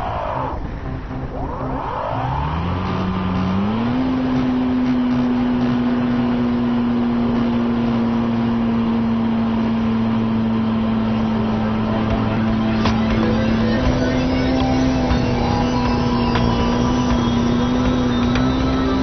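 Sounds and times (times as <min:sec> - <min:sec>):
model airplane motor droning: 0:03.0 - 0:19.0.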